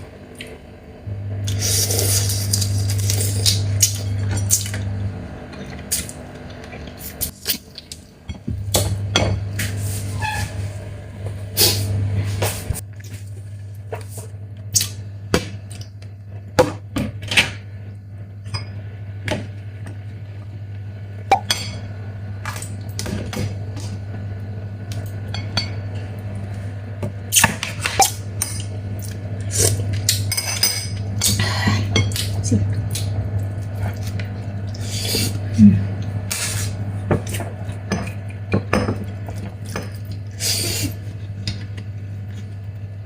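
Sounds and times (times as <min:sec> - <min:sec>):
low hum: 0:00.0 - 0:43.0.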